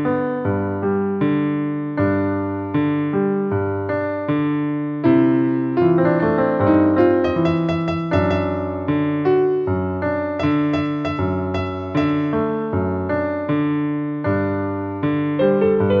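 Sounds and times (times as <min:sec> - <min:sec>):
electric piano playing: 0:00.0 - 0:16.0.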